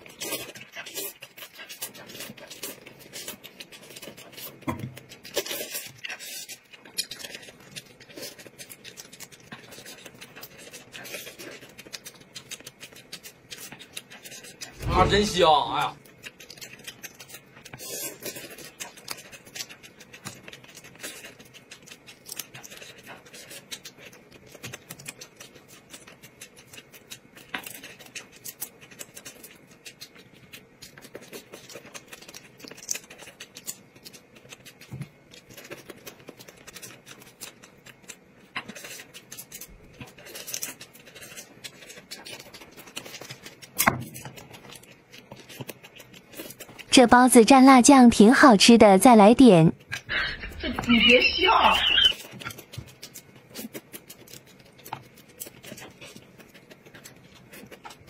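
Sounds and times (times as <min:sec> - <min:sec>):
small clicks and crackles: 0:00.0 - 0:14.8, 0:16.0 - 0:47.0, 0:51.8 - 0:58.0
chewing and crunching: 0:00.0 - 0:47.6, 0:49.5 - 0:58.0.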